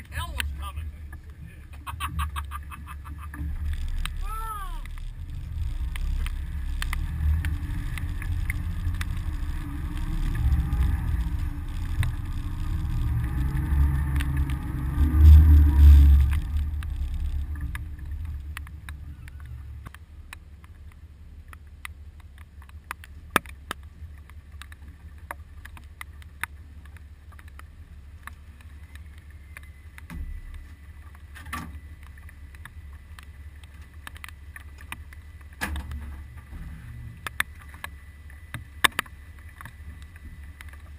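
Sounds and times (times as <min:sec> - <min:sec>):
low rumble of boat trailer: 0:00.0 - 0:40.9
outboard motor idling hum: 0:00.0 - 0:40.9
light ticks: 0:02.5 - 0:36.6, 0:37.2 - 0:40.9.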